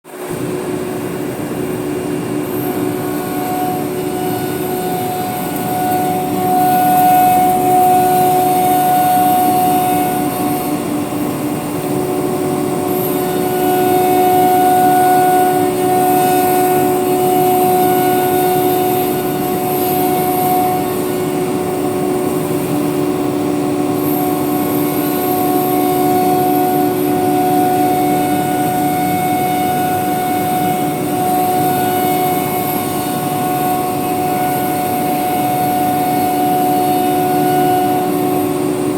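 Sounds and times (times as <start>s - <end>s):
router machine drone: 0.1s - 38.9s
spindle whine: 0.2s - 38.9s.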